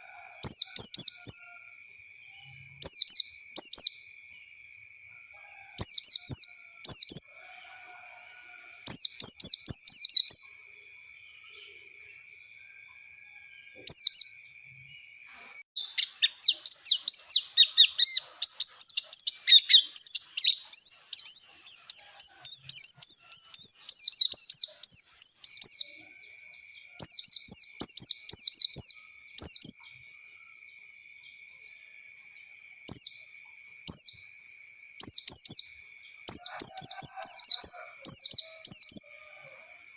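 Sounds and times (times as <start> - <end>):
bird twittering song: 0.0 - 1.6, 2.3 - 4.2, 5.1 - 7.4, 8.9 - 10.7, 13.8 - 15.2, 15.8 - 34.4, 35.0 - 39.3.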